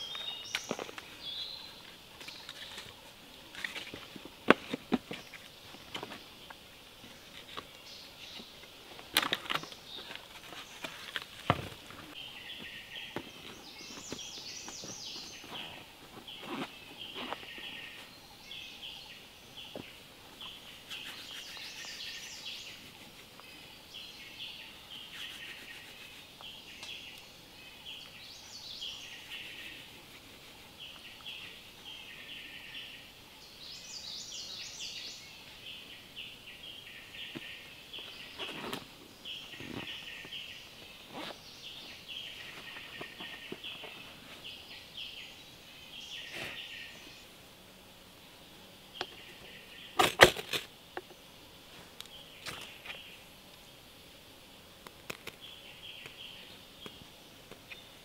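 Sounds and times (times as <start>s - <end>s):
birds chirping: 0.0s - 58.0s
faint ambient hiss: 0.0s - 58.0s.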